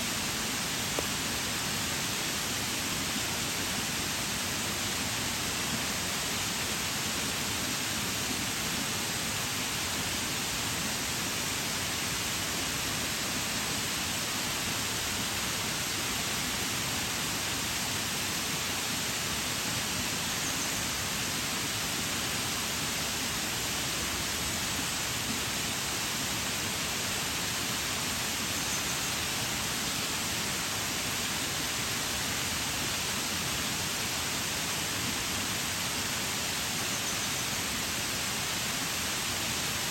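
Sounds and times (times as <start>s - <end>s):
waterfall hissing: 0.0s - 39.9s.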